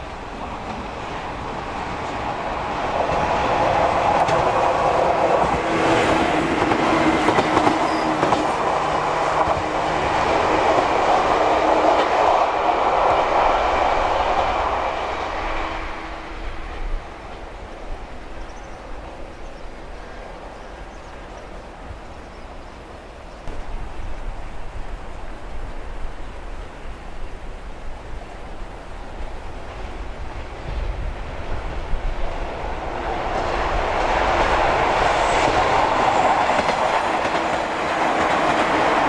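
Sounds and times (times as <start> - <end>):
electric train passing: 0.0 - 39.0.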